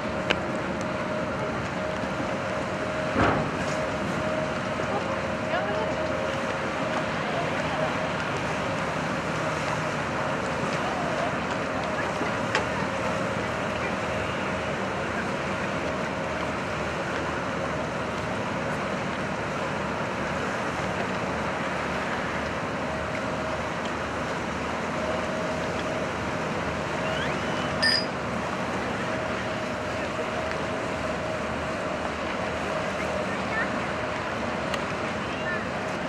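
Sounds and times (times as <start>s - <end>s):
boat engine droning: 0.0s - 36.0s
choppy water rushing: 0.0s - 36.0s.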